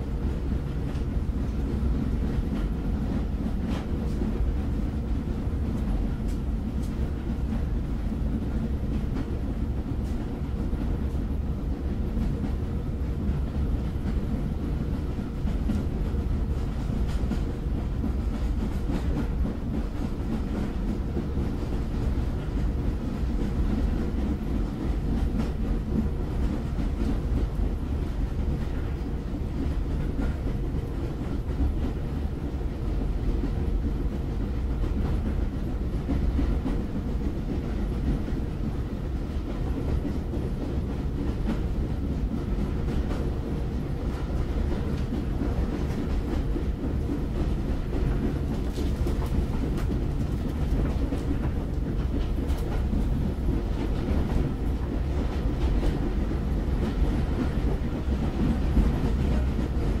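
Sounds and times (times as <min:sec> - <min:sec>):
train rumbling on rails: 0:00.0 - 1:00.0.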